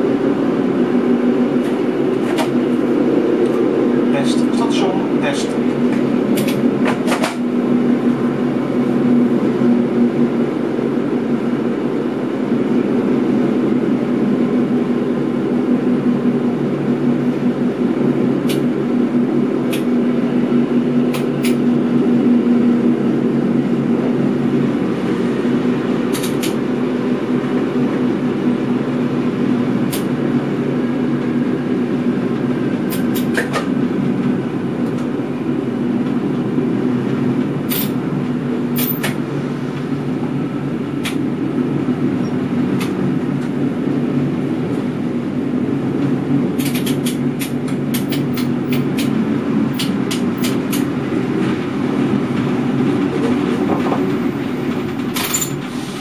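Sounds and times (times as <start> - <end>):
train cab low drone: 0.0 - 56.0.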